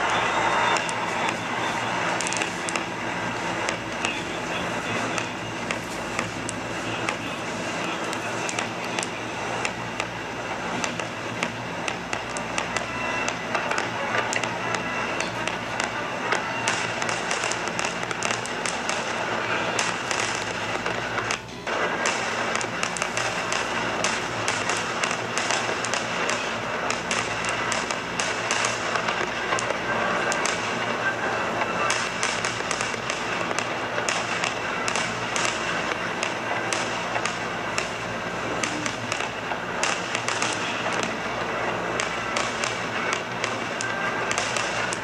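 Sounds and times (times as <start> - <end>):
faint music: 0.0 - 45.0
fireworks crackling and popping: 0.0 - 45.0
steady hiss: 0.0 - 45.0.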